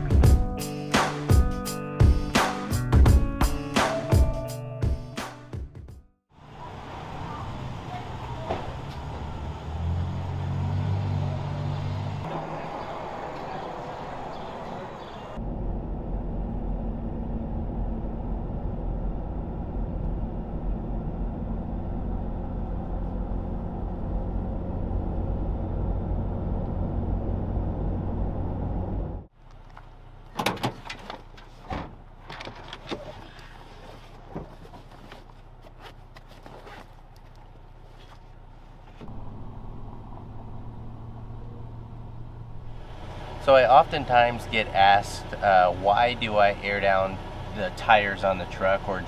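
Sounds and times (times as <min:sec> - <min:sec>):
truck engine and road drone: 0:06.3 - 0:49.0.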